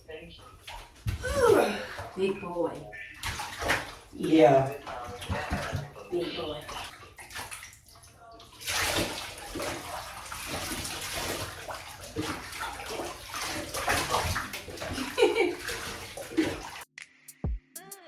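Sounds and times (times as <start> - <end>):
water running into bathtub: 0.0 - 16.9
water splashing: 0.0 - 16.9.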